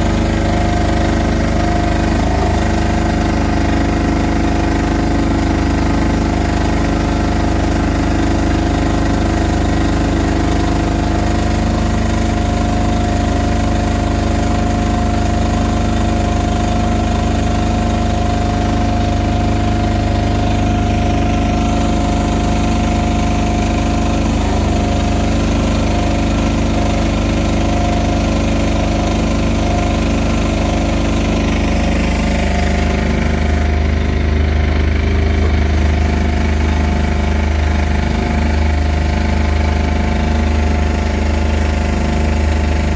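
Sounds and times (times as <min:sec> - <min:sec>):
mortar mixer engine droning: 0:00.0 - 0:42.9.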